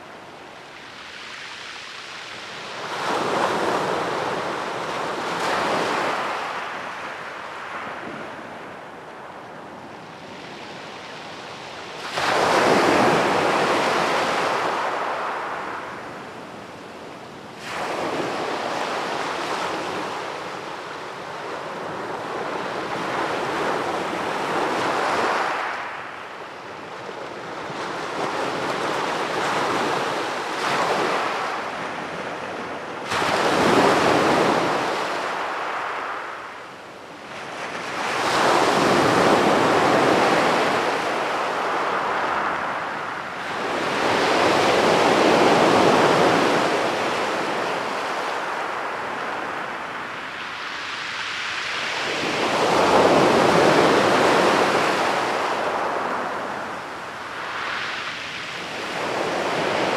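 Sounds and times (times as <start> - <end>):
sea waves breaking on a beach: 0.0 - 59.9.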